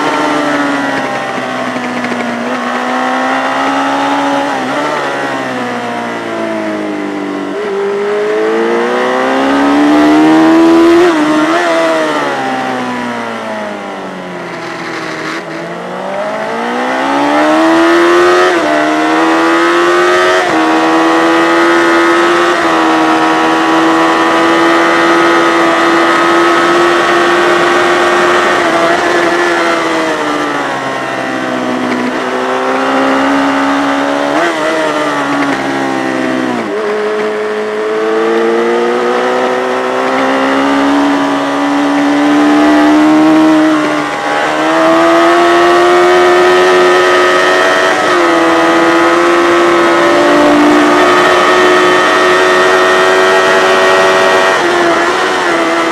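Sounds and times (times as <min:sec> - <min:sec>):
racing motorcycle revving: 0:00.0 - 0:55.9.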